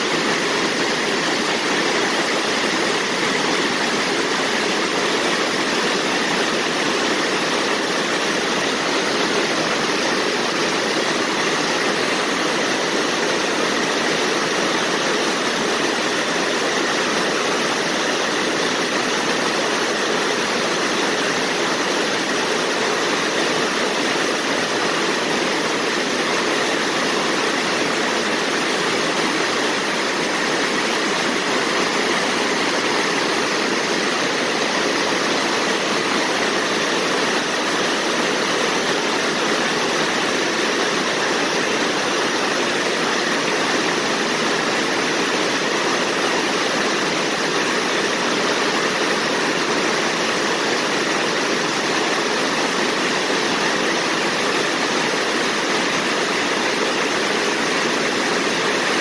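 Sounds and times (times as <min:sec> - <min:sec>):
water rushing over weir: 0:00.0 - 0:59.0.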